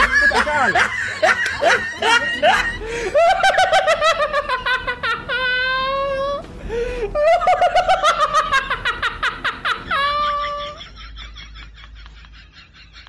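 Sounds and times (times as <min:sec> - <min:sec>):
high-pitched laughter: 0:00.0 - 0:06.4, 0:07.2 - 0:13.0.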